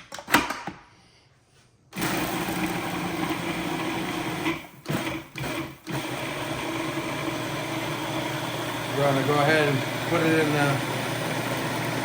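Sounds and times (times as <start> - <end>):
food processor running: 2.0 - 12.0.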